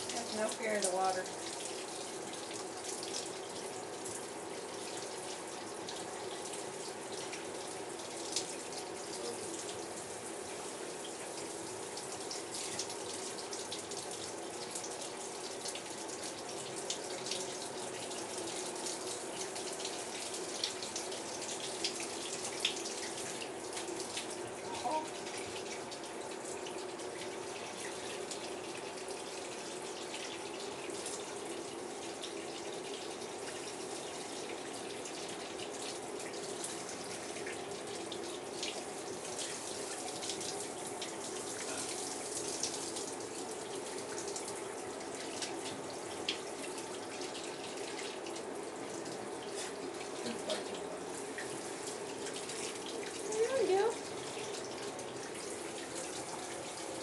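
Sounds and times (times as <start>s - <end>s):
shower spray running into bathtub: 0.0s - 57.0s.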